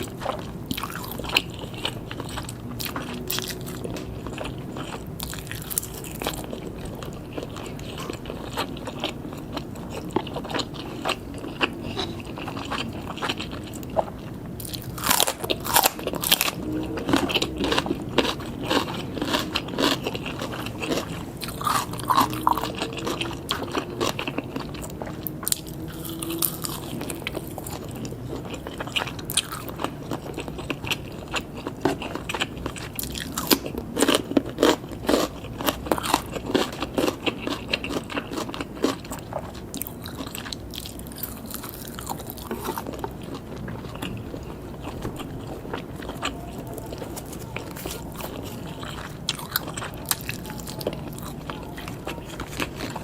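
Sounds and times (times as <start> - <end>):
biting and chewing: 0.0 - 53.0.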